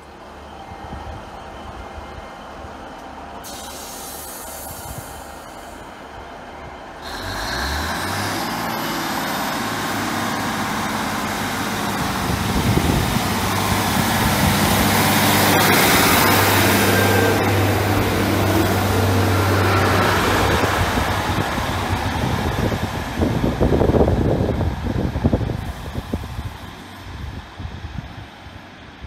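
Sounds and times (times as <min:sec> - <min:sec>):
train diesel engines revving: 0:00.0 - 0:29.0
rising whine: 0:00.2 - 0:27.4.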